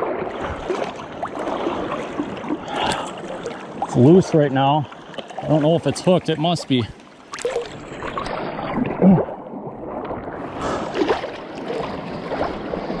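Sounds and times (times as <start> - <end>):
seawater sloshing and splashing: 0.0 - 13.0.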